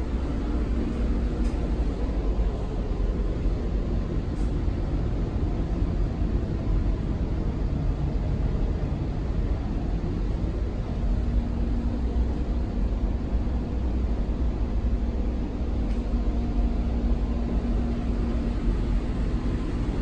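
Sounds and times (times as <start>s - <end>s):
electric train rumbling: 0.0s - 20.0s
faint hum tone: 0.0s - 20.0s.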